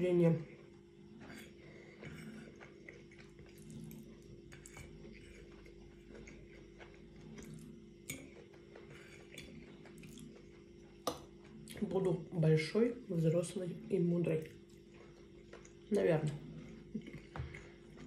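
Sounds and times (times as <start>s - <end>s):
faint steady hum: 0.0s - 18.0s
person chewing: 0.7s - 11.8s, 14.4s - 18.0s.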